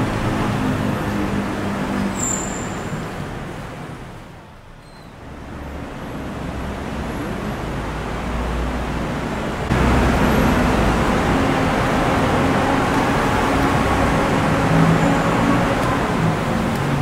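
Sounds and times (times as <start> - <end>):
road traffic on wet streets: 0.0 - 17.0.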